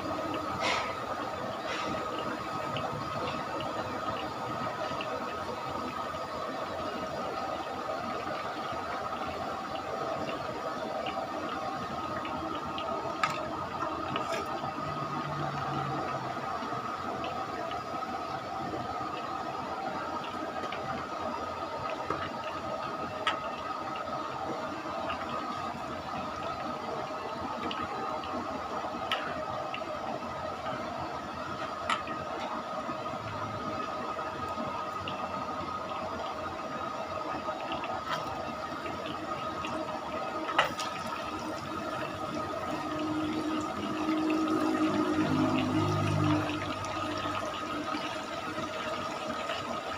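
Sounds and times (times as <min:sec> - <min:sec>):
hot oil sizzling and bubbling: 0:00.0 - 0:49.9.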